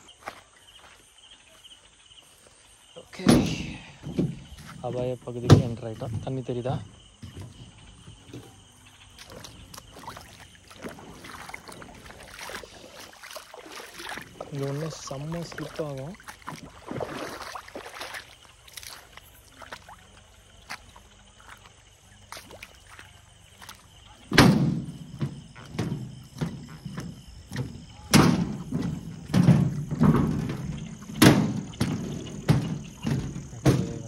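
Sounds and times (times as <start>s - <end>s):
heavy footsteps on slippery ground: 0.0s - 34.0s.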